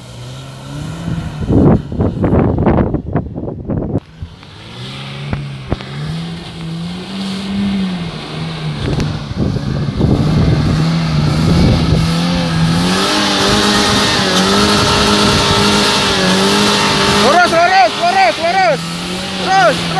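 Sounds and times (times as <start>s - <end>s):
car engine under load: 0.0s - 19.9s.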